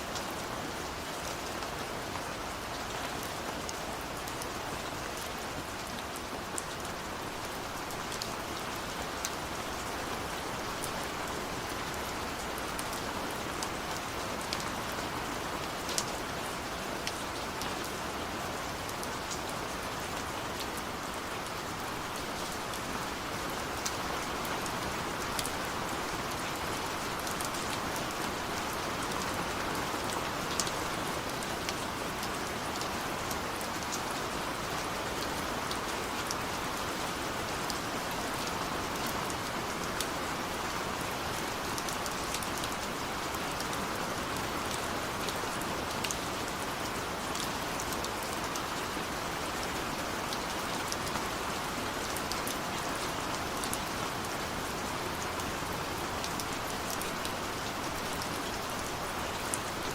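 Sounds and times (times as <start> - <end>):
rain on a window: 0.0 - 59.9.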